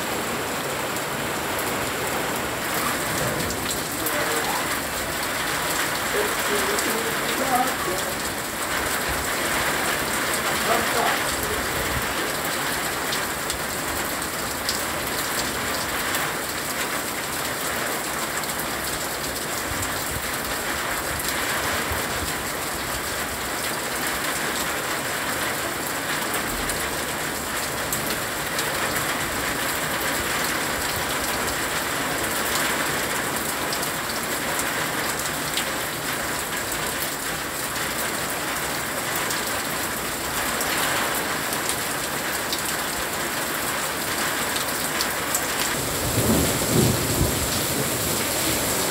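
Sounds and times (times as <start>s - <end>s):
rain on plants: 0.0s - 48.9s.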